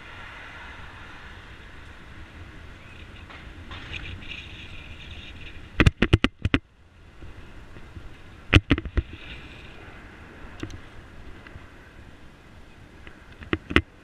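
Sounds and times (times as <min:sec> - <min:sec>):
bicycle rattling over bumps: 0:00.0 - 0:14.0
wind and road noise: 0:00.0 - 0:14.0.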